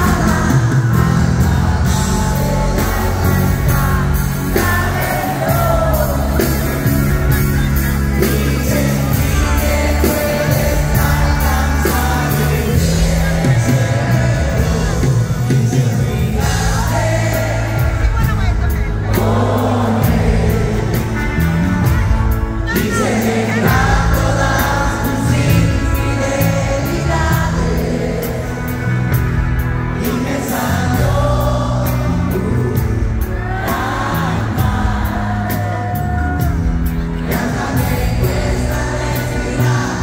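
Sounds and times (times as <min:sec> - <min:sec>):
lead voice singing: 0:00.0 - 0:40.0
live band playing: 0:00.0 - 0:40.0.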